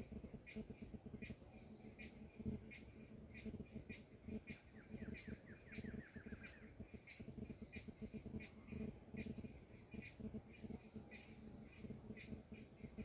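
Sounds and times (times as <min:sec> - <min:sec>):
insect trilling: 0:00.0 - 0:13.0
insect clicking pulses: 0:02.0 - 0:13.0.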